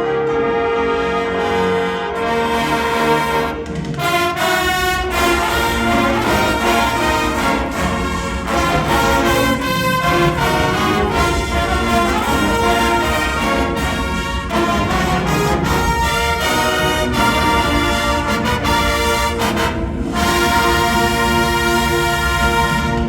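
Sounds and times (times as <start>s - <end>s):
brass-led wind ensemble playing: 0.0s - 23.0s.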